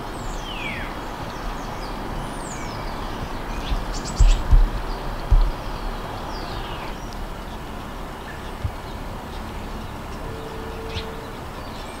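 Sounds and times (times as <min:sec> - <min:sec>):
low background rumble: 0:00.4 - 0:10.2.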